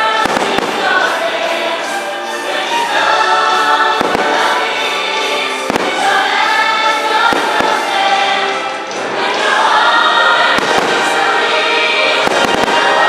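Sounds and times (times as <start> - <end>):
music with choir voices: 0.0 - 13.0.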